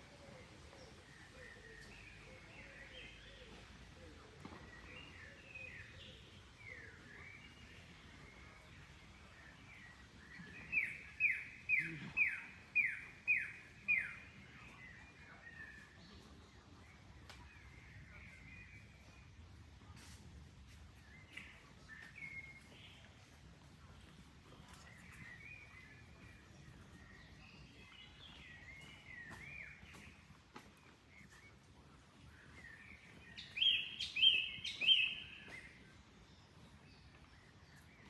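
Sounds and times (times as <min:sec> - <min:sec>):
faint steady background noise: 0:00.0 - 0:38.0.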